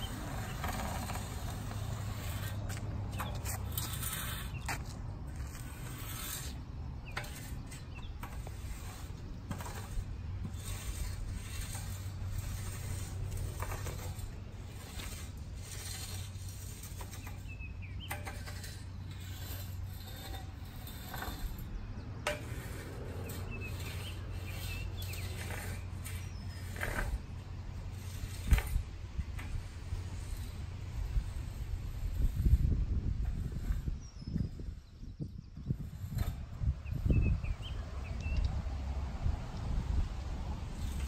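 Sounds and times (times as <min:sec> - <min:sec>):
rake scraping through grass: 0:00.0 - 0:38.6, 0:39.7 - 0:41.0.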